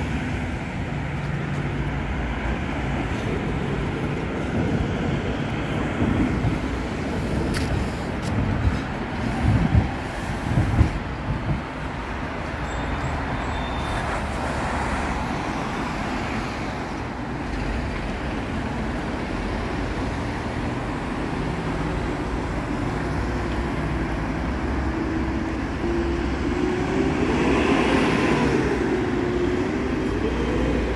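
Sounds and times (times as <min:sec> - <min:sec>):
road traffic: 0:00.0 - 0:30.9.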